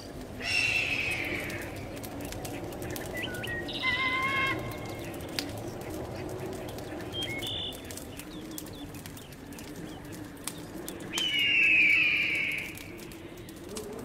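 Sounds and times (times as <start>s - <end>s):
bird chirps and clicks: 0.1s - 14.0s.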